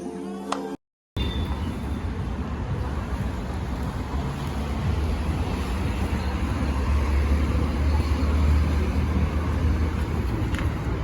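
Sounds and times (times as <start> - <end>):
road vehicle rumble: 1.2 - 11.0.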